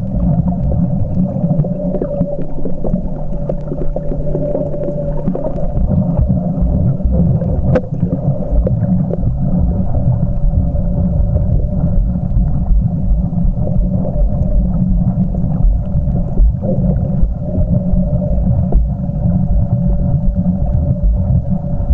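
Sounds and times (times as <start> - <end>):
faint steady hum: 0.0 - 21.9
muffled underwater water rumble: 0.0 - 21.9.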